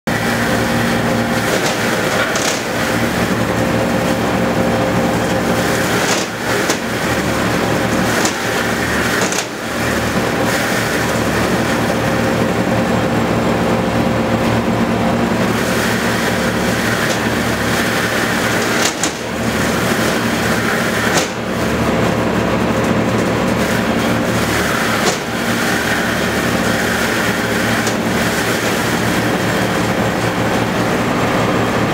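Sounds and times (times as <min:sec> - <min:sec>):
tractor engine drone: 0:00.0 - 0:31.9
bale processor throwing straw: 0:00.1 - 0:31.9.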